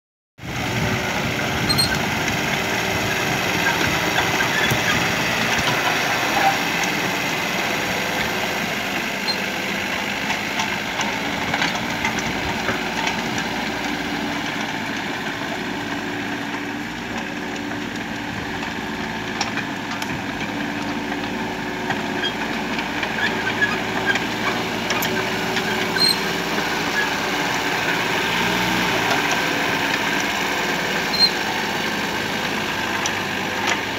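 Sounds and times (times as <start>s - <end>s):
excavator diesel engine running: 0.4s - 33.9s.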